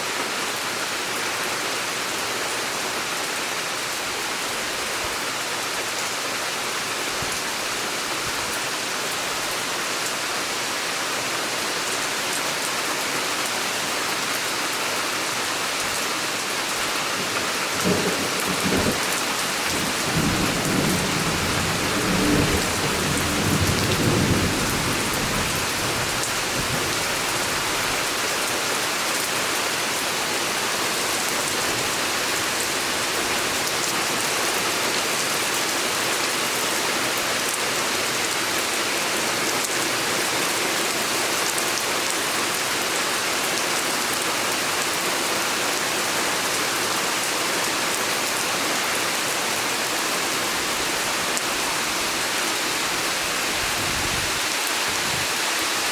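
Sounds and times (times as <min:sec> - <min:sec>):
rain pouring: 0:00.0 - 0:55.9.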